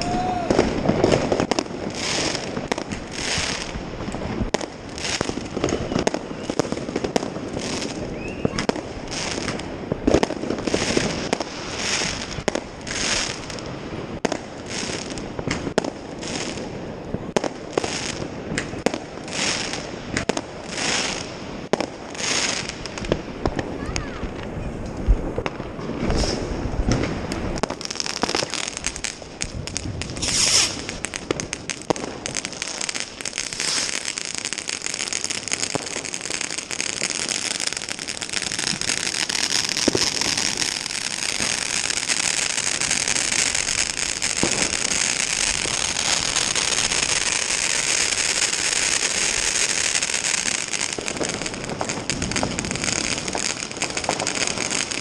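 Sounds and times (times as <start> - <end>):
dense crackling of fireworks: 0.0 - 55.0
firecracker and rocket bangs: 0.0 - 55.0.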